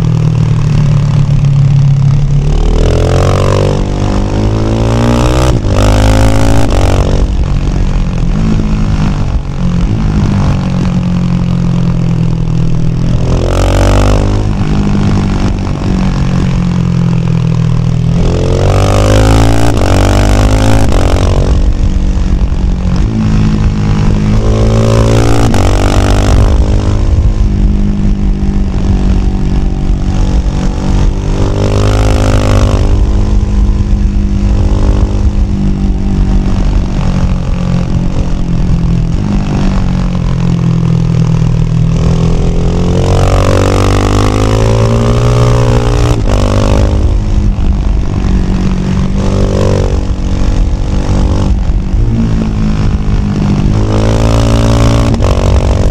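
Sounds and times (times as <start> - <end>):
motorcycle engine revving: 0.0 - 55.9
rushing wind: 0.0 - 55.9.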